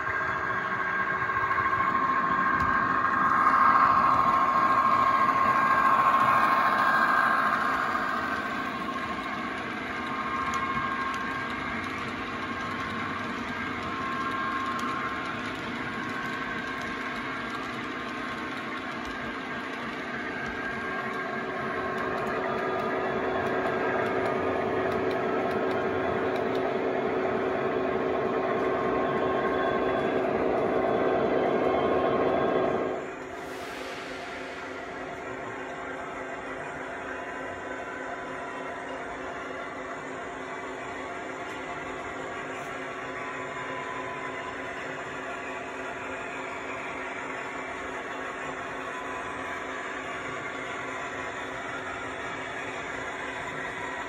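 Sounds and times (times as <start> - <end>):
model locomotive diesel sounds: 0.0 - 54.0.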